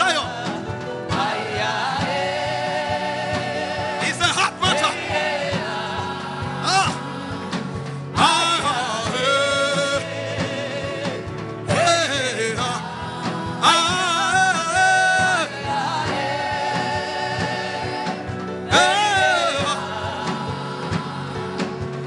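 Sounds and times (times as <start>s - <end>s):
keyboard chords: 0.0s - 22.0s
person singing gospel song: 0.0s - 22.0s.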